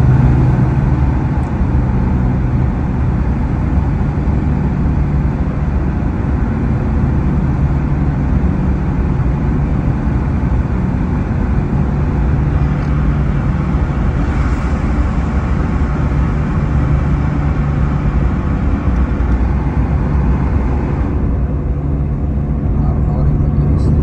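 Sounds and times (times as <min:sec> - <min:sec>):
car engine drone: 0:00.0 - 0:24.0.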